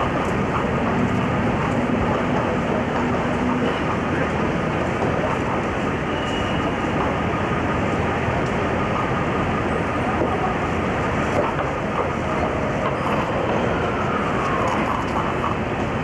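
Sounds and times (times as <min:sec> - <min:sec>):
pedestrian crowd noise: 0:00.0 - 0:16.0
traffic: 0:00.0 - 0:16.0.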